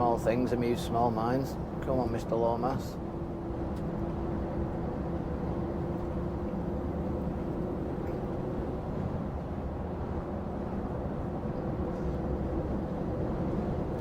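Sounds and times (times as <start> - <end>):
constant hum: 0.0 - 14.0
road noise: 0.0 - 14.0.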